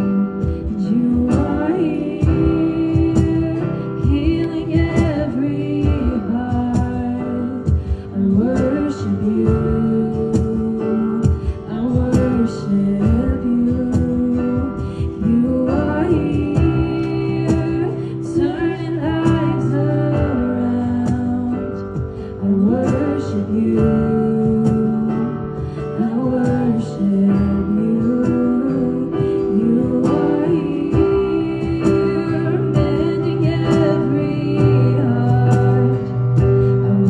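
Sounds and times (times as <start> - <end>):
acoustic guitar: 0.0 - 37.0
woman singing: 0.0 - 37.0.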